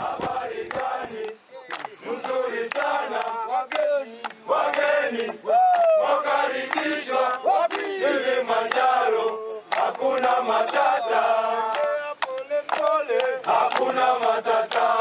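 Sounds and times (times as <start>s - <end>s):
men chanting together: 0.0s - 15.0s
handclaps: 0.2s - 15.0s.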